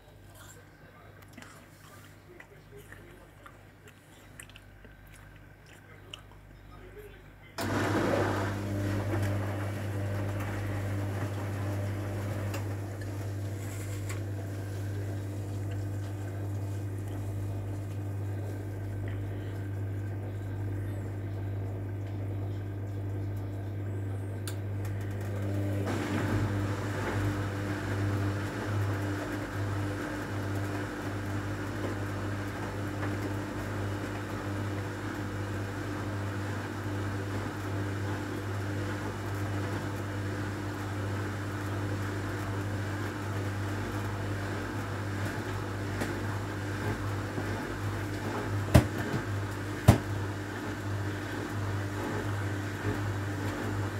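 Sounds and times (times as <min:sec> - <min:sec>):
washing machine motor hum: 0:07.5 - 0:53.9.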